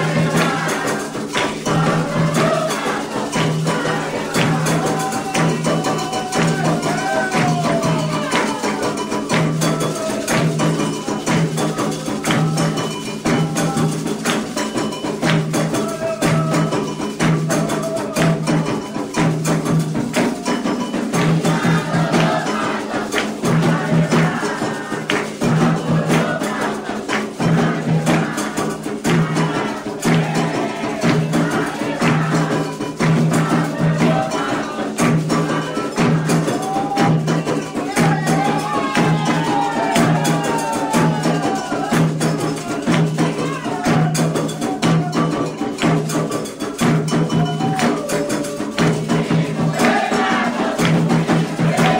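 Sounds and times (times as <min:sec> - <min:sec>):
bell and shaker strikes: 0:00.0 - 0:51.9
hand drums beating: 0:00.0 - 0:51.9
voices singing: 0:00.0 - 0:51.9.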